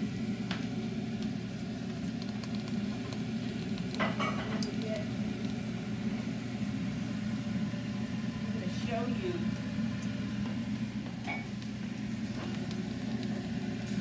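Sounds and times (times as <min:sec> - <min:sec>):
low fan hum: 0:00.0 - 0:14.0
vegetables sizzling on grill: 0:00.0 - 0:14.0.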